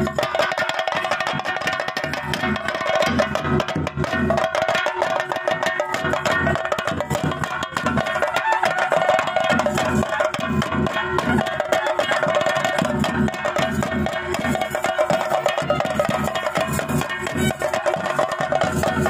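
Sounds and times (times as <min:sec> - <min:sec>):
drums playing fast rhythm: 0:00.0 - 0:19.0.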